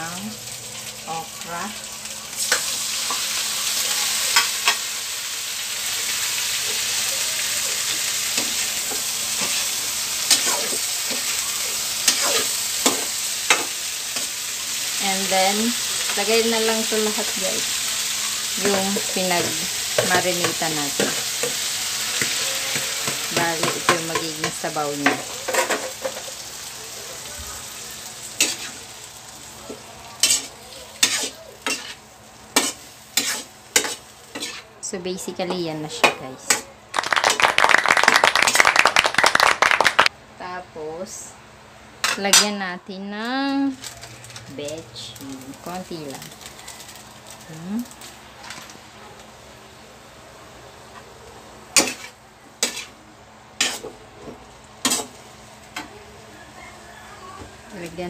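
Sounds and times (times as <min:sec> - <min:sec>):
food sizzling: 0:00.0 - 0:40.1, 0:42.0 - 0:58.0.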